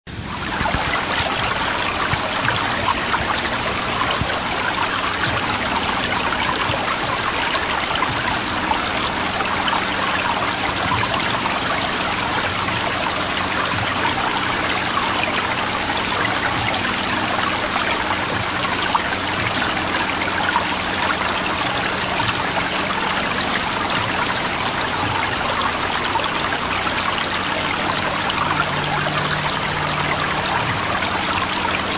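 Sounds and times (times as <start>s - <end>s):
waterfall splashing into pool: 0.1s - 31.9s.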